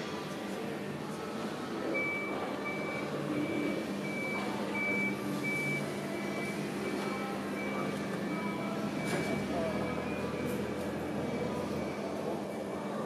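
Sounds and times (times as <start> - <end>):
reversing alarm beeping: 1.9 - 12.8.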